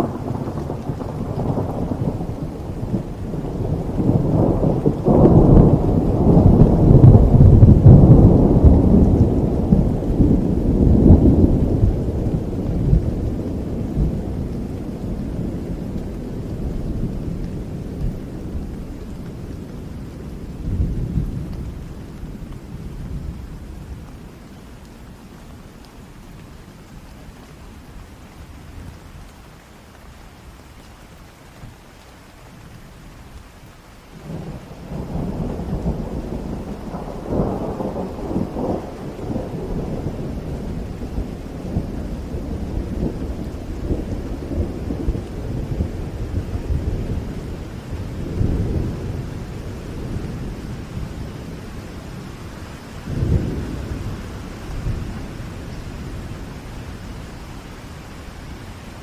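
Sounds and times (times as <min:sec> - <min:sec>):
rolling thunder: 0:00.0 - 0:24.1, 0:34.2 - 0:57.4
steady rain: 0:00.0 - 0:59.0.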